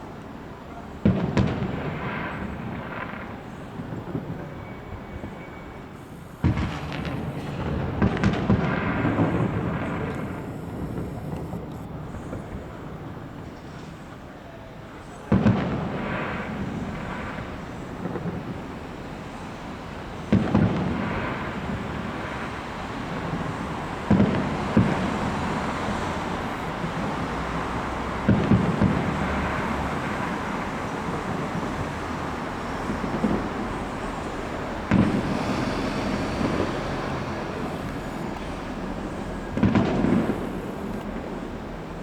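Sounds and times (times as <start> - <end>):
fireworks bursting with bangs: 0.0 - 14.2, 14.9 - 42.0
fireworks crackling: 0.0 - 14.2, 14.9 - 42.0
rolling echo: 0.6 - 13.2, 15.2 - 42.0.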